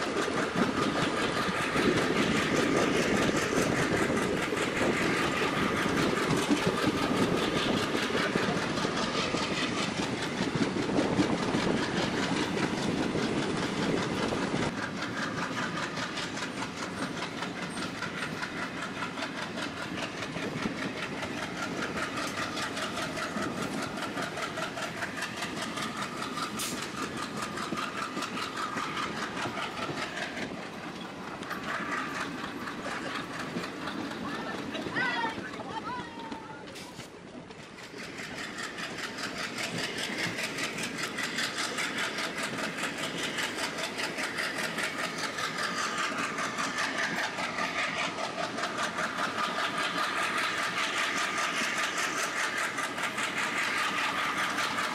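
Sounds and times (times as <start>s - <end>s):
diesel locomotive working: 0.0s - 54.9s
train wheels clattering over rail joints: 0.0s - 54.9s.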